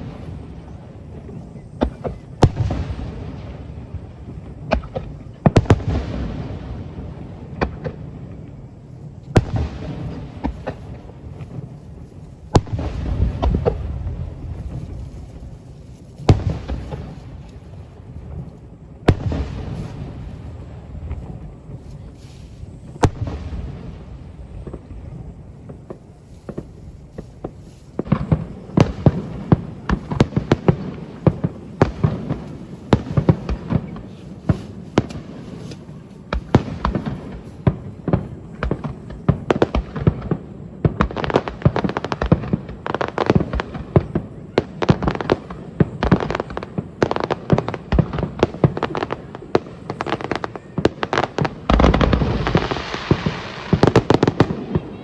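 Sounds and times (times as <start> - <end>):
deep firework booms: 0.0 - 55.0
fireworks crackling and banging: 0.0 - 55.0.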